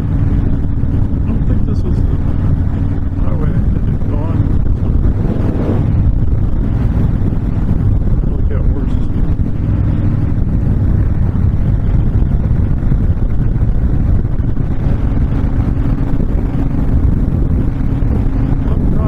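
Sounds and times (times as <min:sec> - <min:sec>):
motorcycle engine cruising: 0:00.0 - 0:19.0
wind buffeting microphone: 0:00.0 - 0:19.0.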